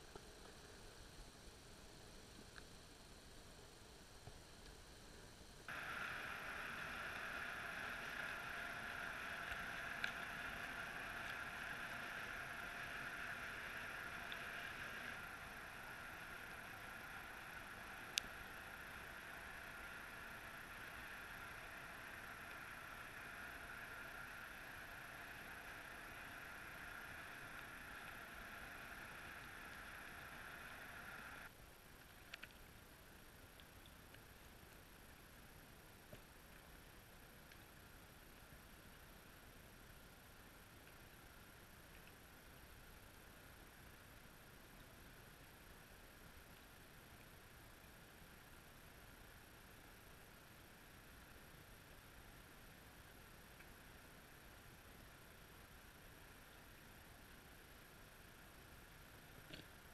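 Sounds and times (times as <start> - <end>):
distant boat motor underwater: 0.0 - 59.9.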